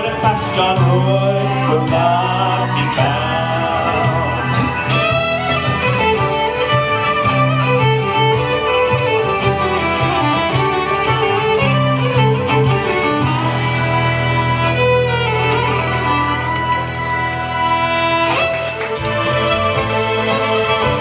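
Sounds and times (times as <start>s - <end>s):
band accompaniment: 0.0s - 21.0s
fiddle melody: 0.0s - 21.0s
low bass notes: 0.0s - 21.0s.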